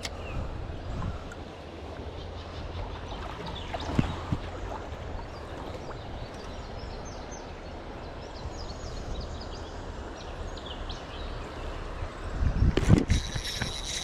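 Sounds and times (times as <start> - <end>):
flowing creek: 0.0 - 14.0.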